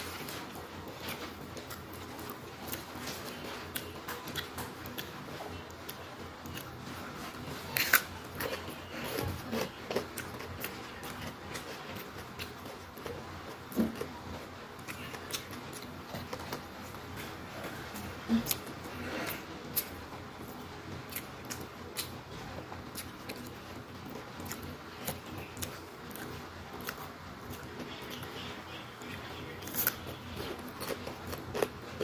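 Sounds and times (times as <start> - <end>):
chewing with wet mouth smacks: 0.0 - 32.0.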